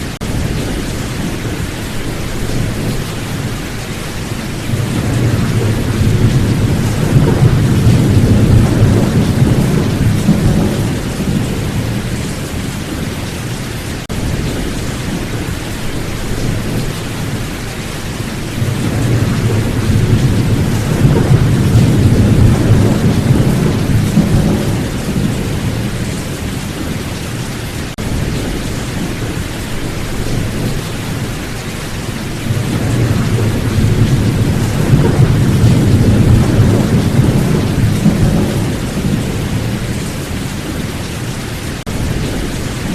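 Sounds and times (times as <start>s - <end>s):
heavy rain: 0.0s - 42.9s
rolling thunder: 0.0s - 42.9s.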